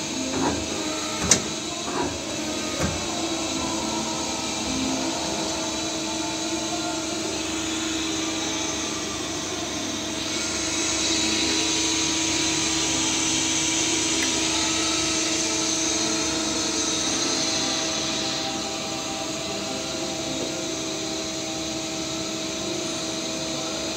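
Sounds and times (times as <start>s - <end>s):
lathe mechanical hum and whine: 0.0s - 23.9s.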